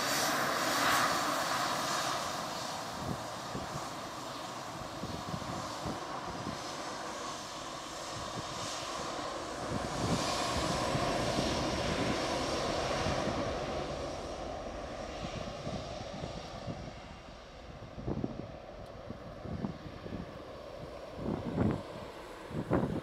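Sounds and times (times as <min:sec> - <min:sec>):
jet airliner engines: 0:00.0 - 0:23.0.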